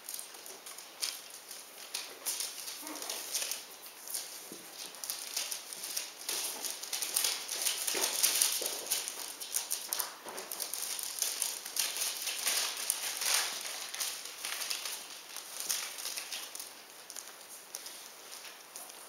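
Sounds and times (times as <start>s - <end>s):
newspaper rustling under paws: 0.0s - 19.0s.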